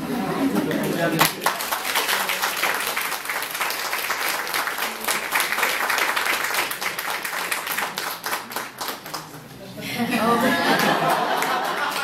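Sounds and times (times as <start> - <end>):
audience applauding: 0.7 - 9.5, 10.5 - 12.0.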